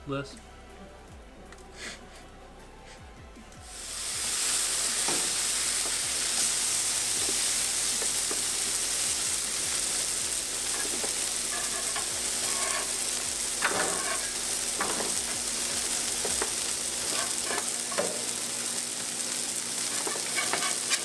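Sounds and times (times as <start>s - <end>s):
patties sizzling on a griddle: 3.6s - 21.0s.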